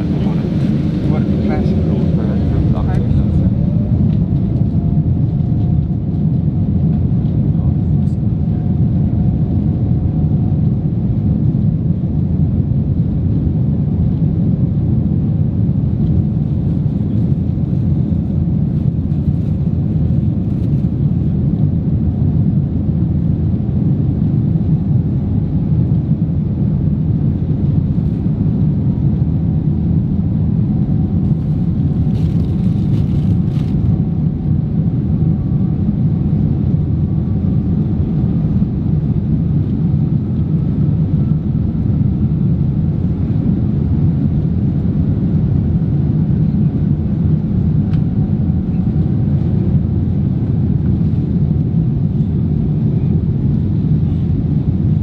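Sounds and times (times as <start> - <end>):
aircraft engines rumbling: 0.0 - 55.0.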